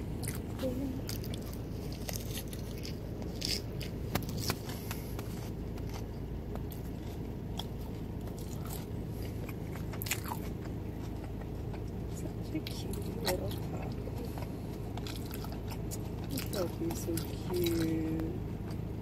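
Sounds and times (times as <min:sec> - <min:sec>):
car interior low hum: 0:00.0 - 0:19.0
wet chewing mouth clicks: 0:00.2 - 0:18.9.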